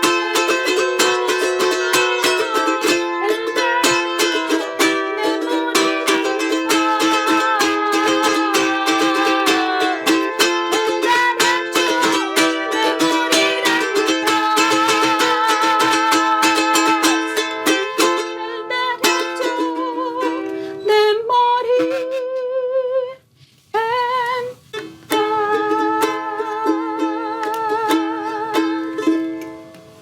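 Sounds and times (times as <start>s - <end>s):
small string instrument strummed: 0.0s - 21.1s, 24.1s - 30.0s.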